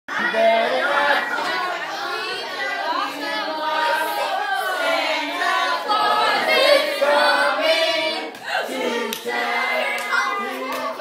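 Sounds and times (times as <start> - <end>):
group singing unaccompanied: 0.1 - 11.0.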